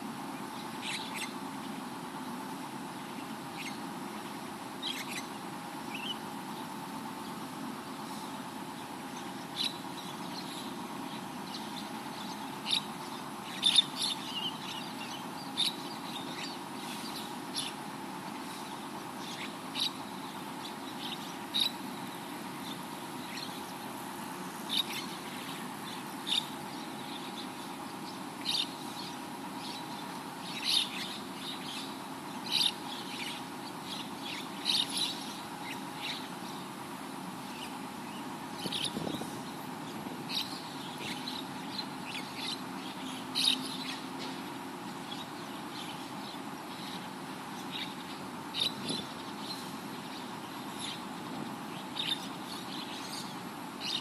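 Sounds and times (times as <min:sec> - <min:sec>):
low background hum: 0:00.0 - 0:54.0.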